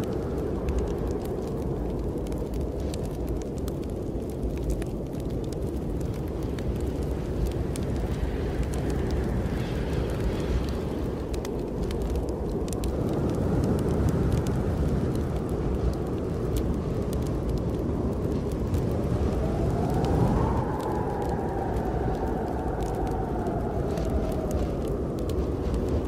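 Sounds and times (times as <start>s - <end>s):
snowstorm wind rushing: 0.0s - 26.0s
wood fire crackling: 0.0s - 26.0s.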